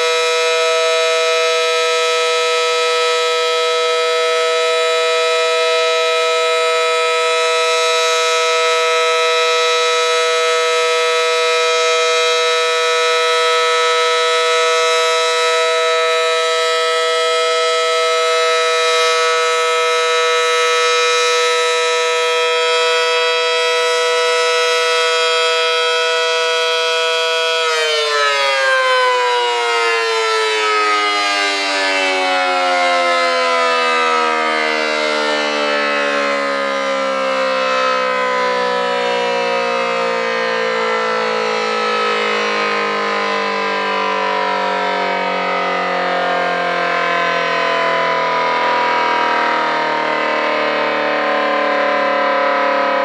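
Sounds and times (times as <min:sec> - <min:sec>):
warning siren two-note chord: 0:00.0 - 0:53.0.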